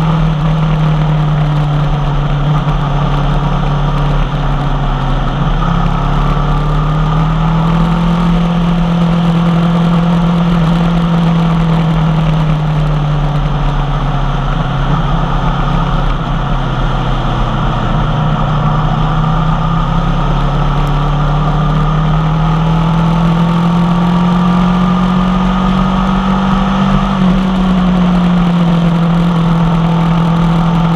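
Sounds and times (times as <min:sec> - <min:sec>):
motorcycle engine under way: 0:00.0 - 0:30.9.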